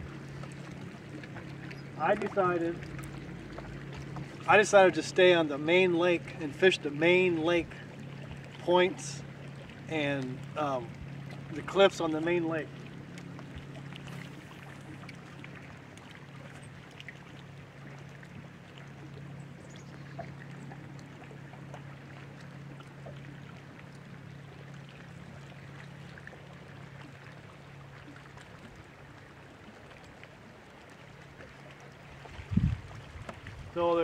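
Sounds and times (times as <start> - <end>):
low hum: 0.0 - 31.0
water lapping against boat hull: 0.0 - 34.0.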